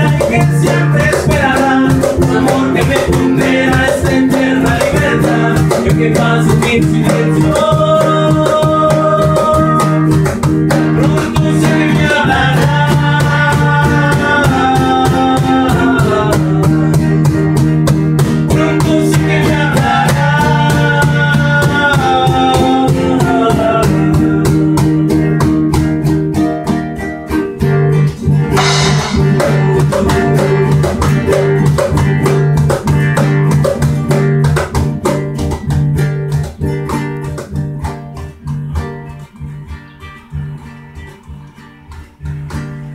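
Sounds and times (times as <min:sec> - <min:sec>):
instrumental band music: 0:00.0 - 0:42.9.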